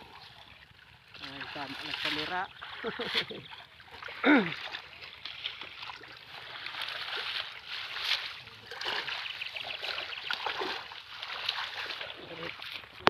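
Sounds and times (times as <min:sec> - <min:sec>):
water sloshing around boat: 0:00.0 - 0:13.0.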